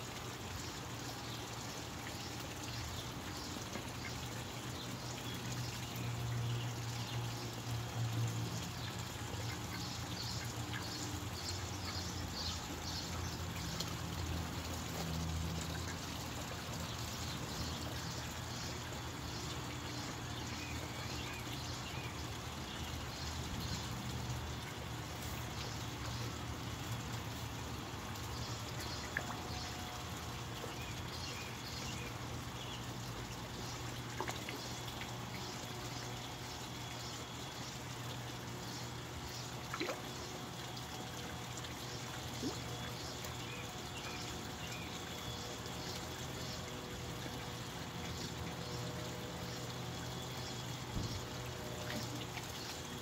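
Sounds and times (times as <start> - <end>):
water trickling into pond: 0.0 - 53.0.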